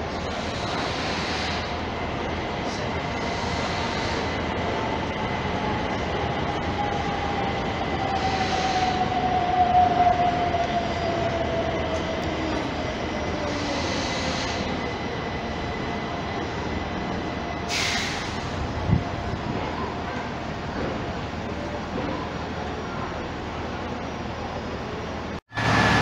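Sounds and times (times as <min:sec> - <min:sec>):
rail noise: 0:00.0 - 0:26.0.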